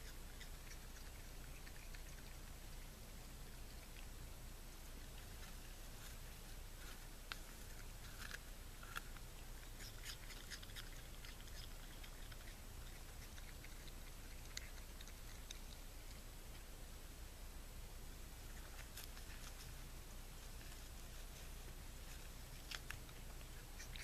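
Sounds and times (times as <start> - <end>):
animal munching an apple: 0.0 - 16.8, 18.1 - 24.0.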